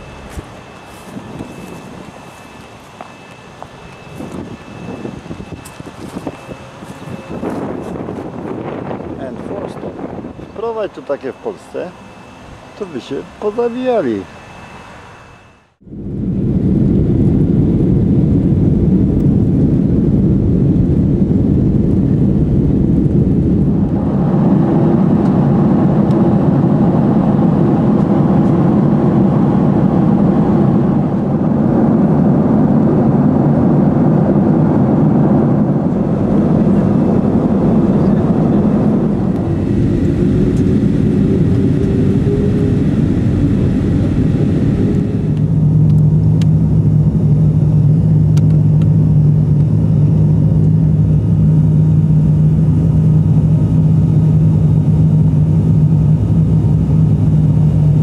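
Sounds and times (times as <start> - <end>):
deep steady hum: 0.0 - 58.0
faint rising whine: 0.0 - 58.0
jet engines and airflow rushing: 0.0 - 58.0.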